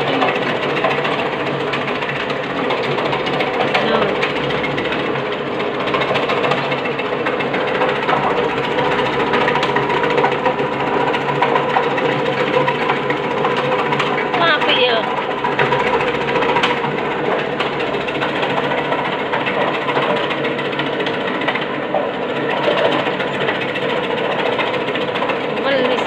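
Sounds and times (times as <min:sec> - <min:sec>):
slicing machine humming and ticking: 0:00.0 - 0:26.0.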